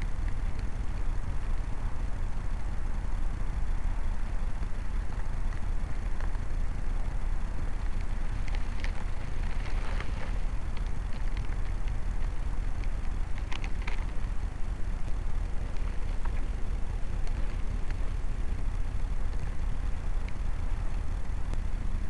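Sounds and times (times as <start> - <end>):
faint high ticks: 0.0 - 22.0
wind buffeting microphone: 0.0 - 22.0.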